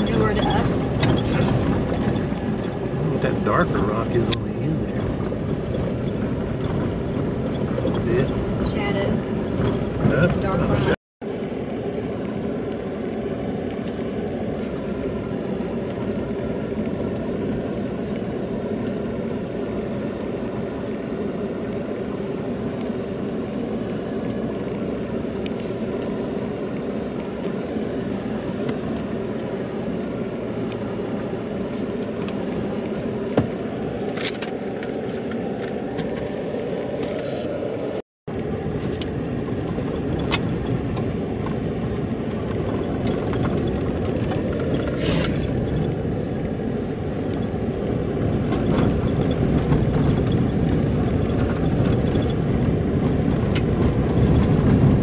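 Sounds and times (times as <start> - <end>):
vehicle rumble on dirt road: 0.0 - 55.0.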